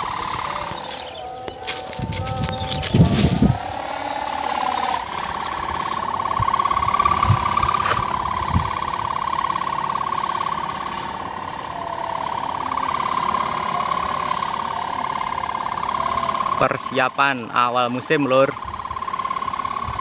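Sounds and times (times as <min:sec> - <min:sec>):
kite hummer buzzing in wind: 0:00.0 - 0:20.0.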